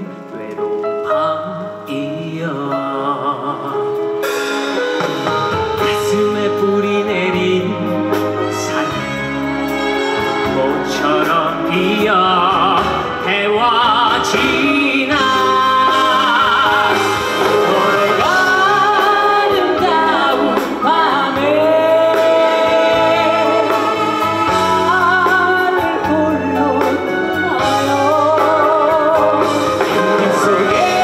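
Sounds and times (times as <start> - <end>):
man singing into microphone: 0.0 - 4.3, 5.8 - 31.0
band with guitars and keyboards: 0.0 - 31.0.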